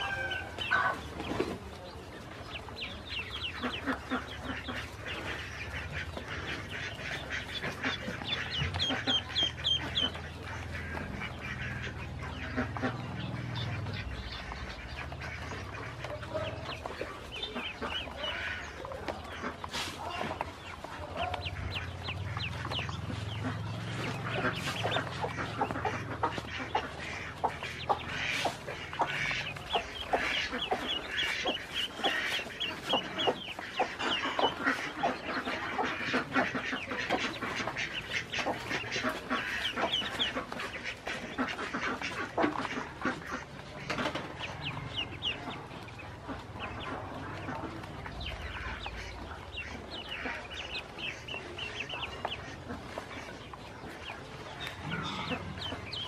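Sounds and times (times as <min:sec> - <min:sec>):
ducklings peeping: 0:00.0 - 0:56.0.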